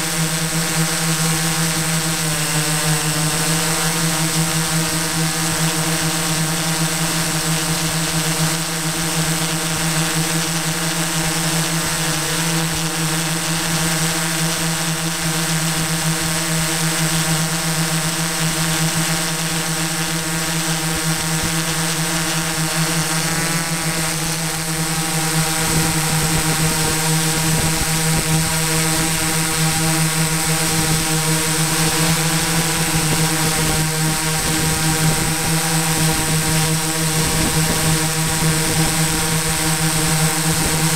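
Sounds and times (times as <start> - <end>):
drone propellers buzzing: 0.0 - 40.9.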